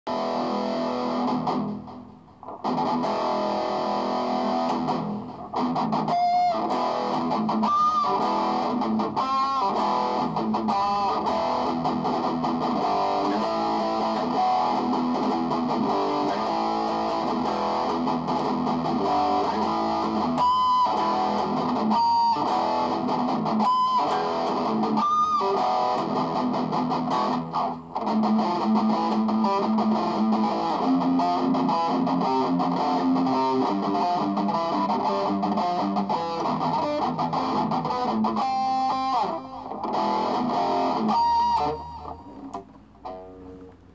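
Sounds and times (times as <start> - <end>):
distorted electric guitar riffs: 0.1 - 43.9.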